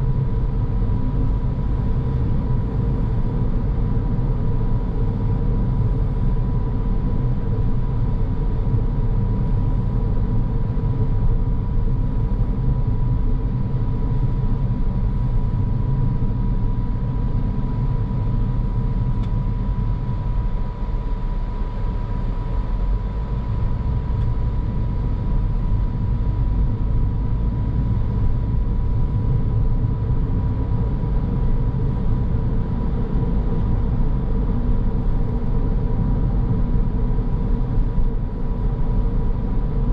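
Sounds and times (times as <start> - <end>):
car road and engine noise: 0.0 - 39.9
thin steady whine: 0.0 - 39.9.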